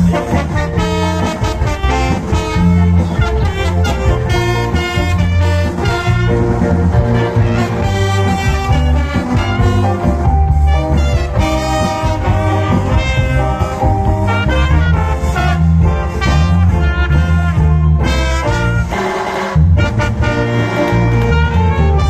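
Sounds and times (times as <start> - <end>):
cha-cha music with brass horns: 0.0 - 22.0
heavy bass line: 0.0 - 22.0.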